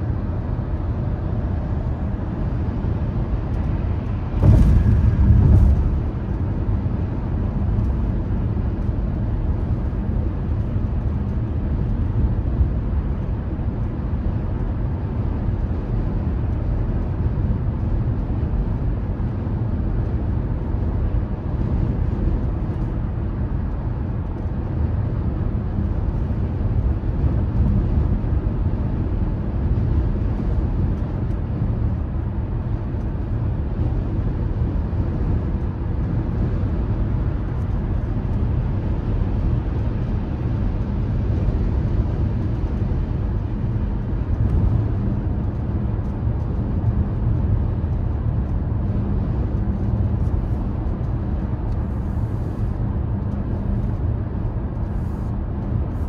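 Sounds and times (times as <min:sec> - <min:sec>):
car engine noise: 0:00.0 - 0:56.0
tyres rumbling on road: 0:00.0 - 0:56.0.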